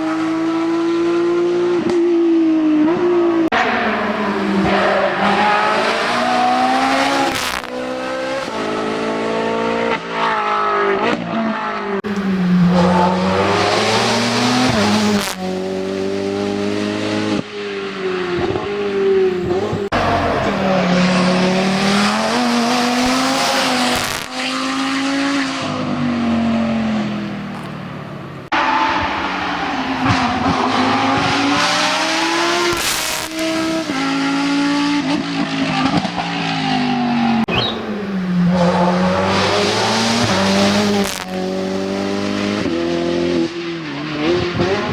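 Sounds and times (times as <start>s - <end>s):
race car engines at full throttle: 0.0s - 44.9s.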